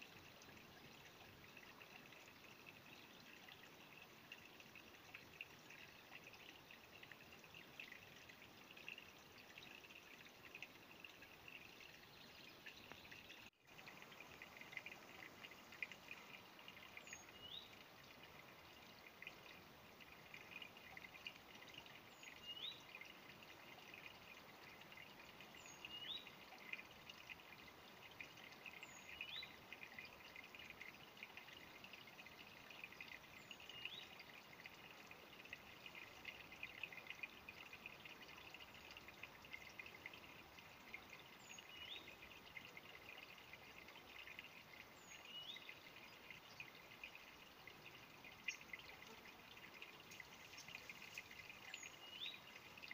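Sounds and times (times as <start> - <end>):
stream trickling and babbling: 0.0 - 52.9.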